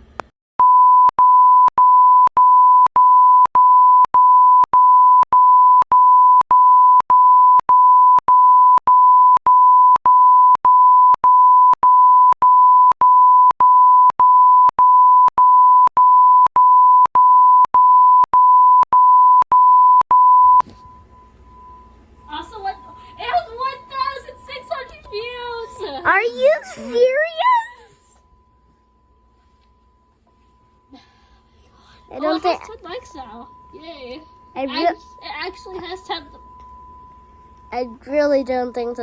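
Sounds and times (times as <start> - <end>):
electronic censor beeps: 0.6 - 38.9.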